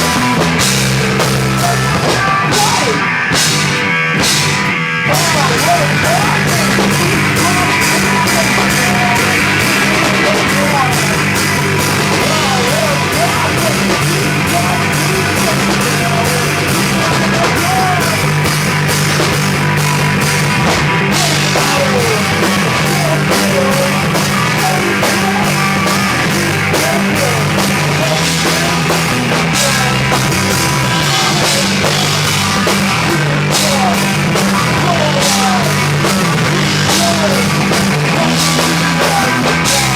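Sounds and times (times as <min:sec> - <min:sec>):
drum kit: 0:00.0 - 0:39.9
live rock band playing: 0:00.0 - 0:39.9.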